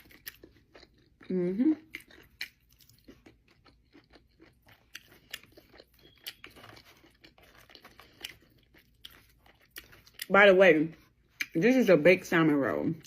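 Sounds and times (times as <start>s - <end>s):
chewing with mouth clicks: 0.0s - 11.6s.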